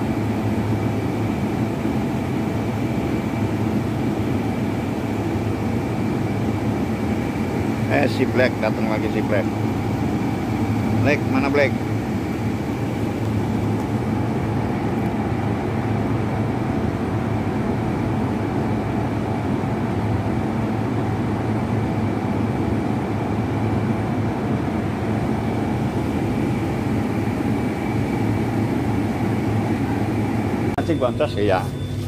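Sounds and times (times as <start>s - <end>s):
factory machinery hum: 0.0s - 32.0s.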